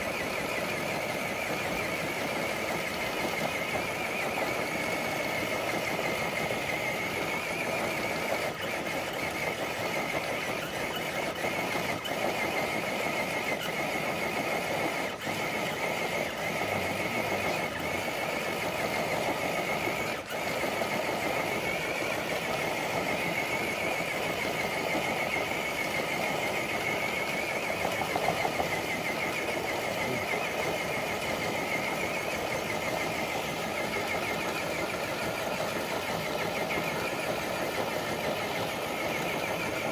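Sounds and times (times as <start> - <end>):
electric motor and gears whining: 0.0 - 39.9.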